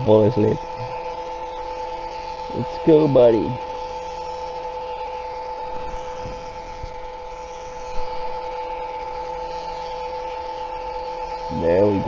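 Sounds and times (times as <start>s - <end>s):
electric pump whining: 0.0s - 12.0s.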